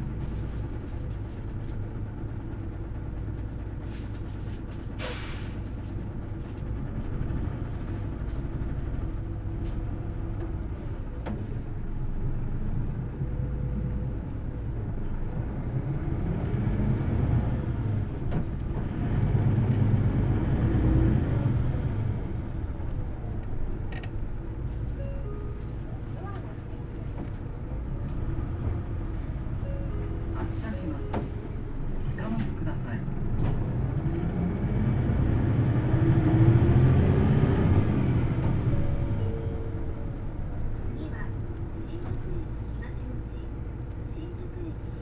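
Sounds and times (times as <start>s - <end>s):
bus engine droning: 0.0s - 45.0s.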